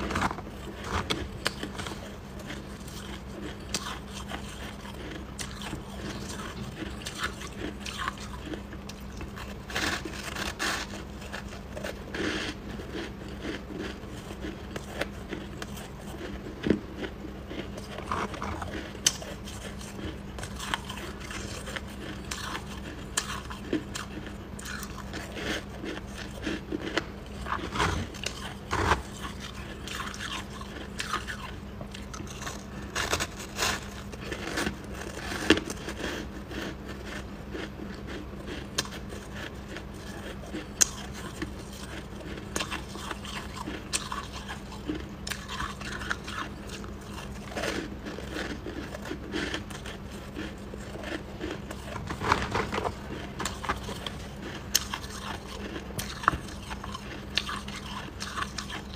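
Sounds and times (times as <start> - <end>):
ice being bitten and chewed: 0.0 - 58.9.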